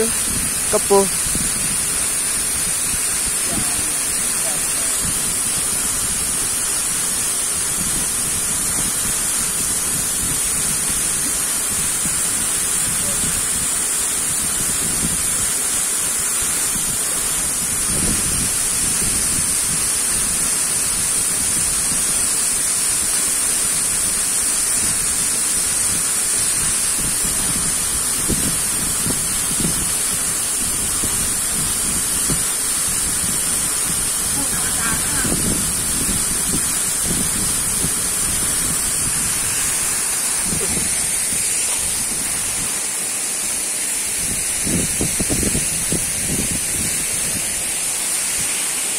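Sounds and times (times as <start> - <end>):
waterfall rushing: 0.0 - 14.4, 15.2 - 48.9.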